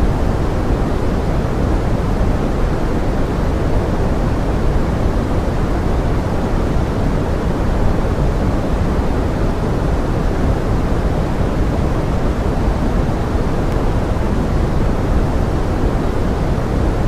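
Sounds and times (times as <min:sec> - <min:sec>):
pink noise: 0:00.0 - 0:17.0.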